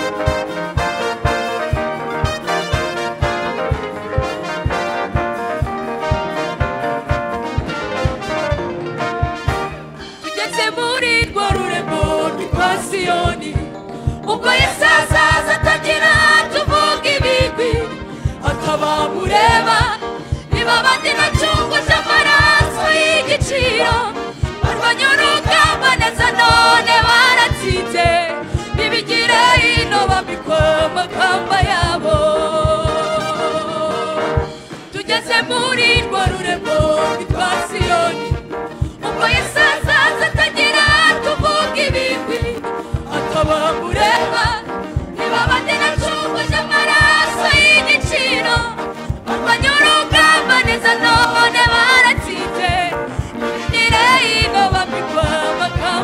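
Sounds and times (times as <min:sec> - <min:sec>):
backing track with steady beat: 0:00.0 - 0:56.0.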